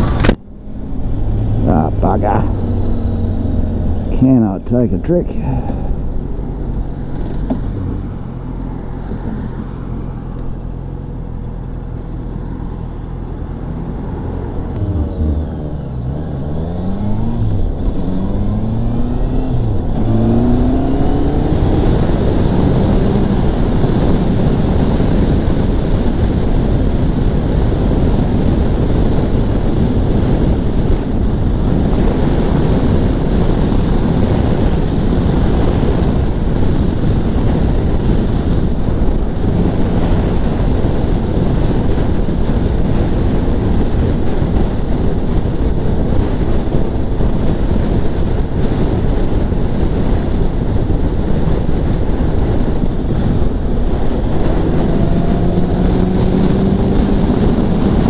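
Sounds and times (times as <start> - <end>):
motorcycle engine accelerating: 0.0 - 58.0
wind noise on microphone: 0.0 - 58.0.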